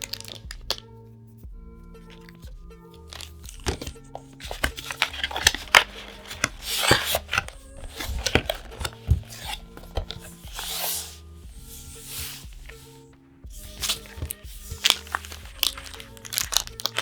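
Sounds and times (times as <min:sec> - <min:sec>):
cards clicking and tapping: 0:00.0 - 0:00.9, 0:02.0 - 0:17.0
soft background music: 0:00.0 - 0:17.0
papery swishes: 0:03.0 - 0:17.0.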